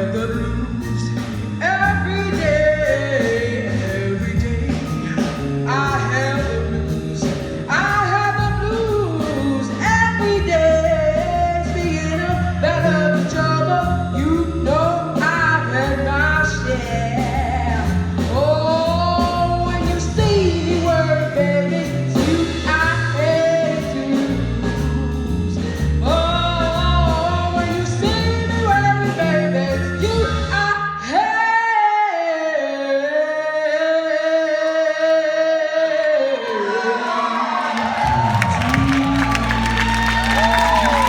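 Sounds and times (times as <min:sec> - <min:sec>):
bass guitar: 0:00.0 - 0:31.2, 0:37.9 - 0:41.0
drums: 0:00.0 - 0:31.3, 0:37.0 - 0:41.0
person singing: 0:00.0 - 0:41.0.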